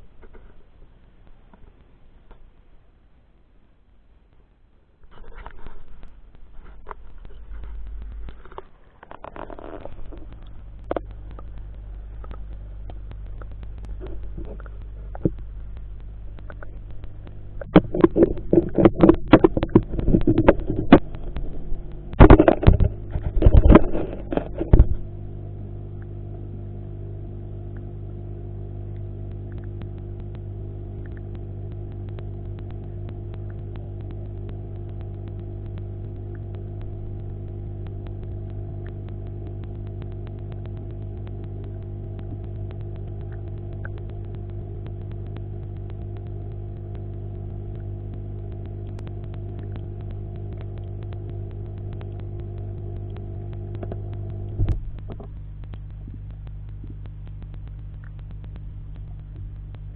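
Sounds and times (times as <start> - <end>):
aquarium skimmer humming: 5.0 - 59.9
aquarium skimmer sputtering: 5.1 - 59.9.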